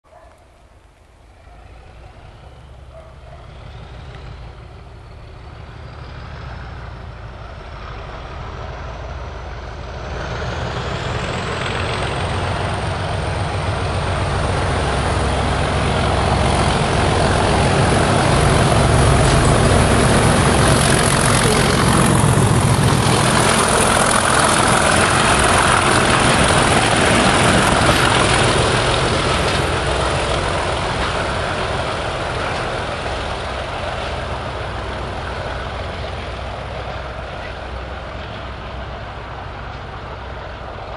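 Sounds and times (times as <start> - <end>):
diesel locomotive engines: 0.1 - 40.9.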